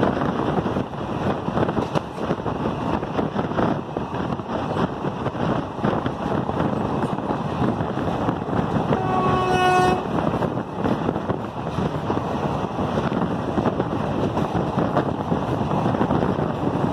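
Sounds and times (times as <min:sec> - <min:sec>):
train rumble and rattle: 0:00.0 - 0:16.9
wind on microphone: 0:00.0 - 0:16.9.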